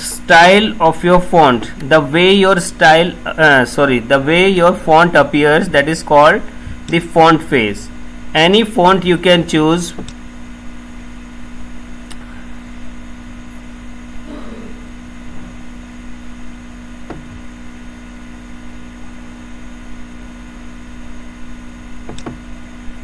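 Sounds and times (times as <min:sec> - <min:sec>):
electrical hum and hiss: 0:00.0 - 0:23.0.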